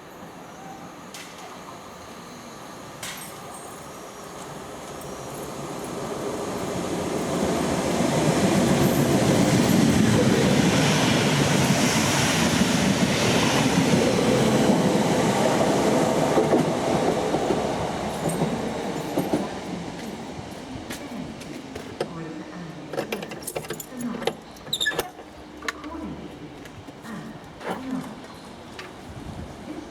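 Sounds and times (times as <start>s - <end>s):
train passing on tracks: 0.0s - 27.6s, 28.2s - 29.9s.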